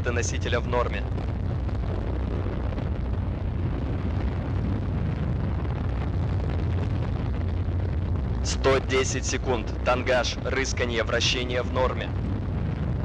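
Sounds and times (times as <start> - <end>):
rocket engines rumbling: 0.0 - 13.0.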